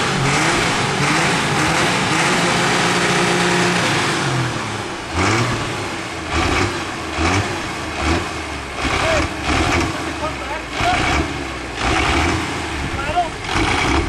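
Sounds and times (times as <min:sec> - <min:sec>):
diesel tractor engine revving: 0:00.0 - 0:14.0.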